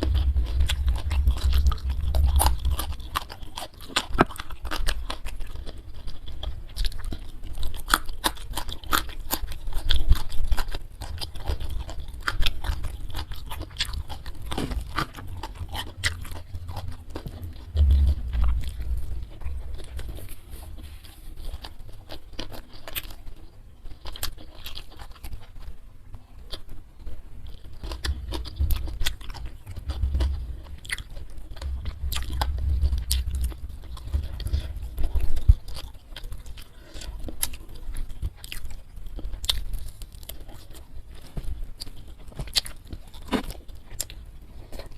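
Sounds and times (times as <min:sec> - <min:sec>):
chewing and crunching food: 0:00.0 - 0:44.9.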